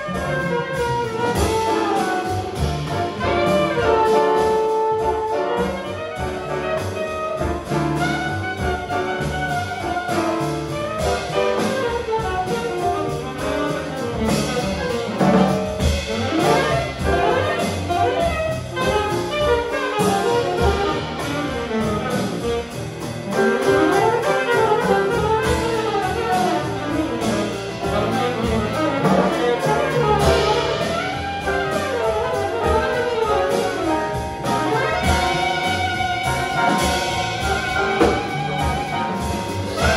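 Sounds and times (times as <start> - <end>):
double bass: 0.0 - 39.9
drums: 0.0 - 39.9
piano: 0.0 - 39.9
saxophone jazz solo: 0.0 - 39.9.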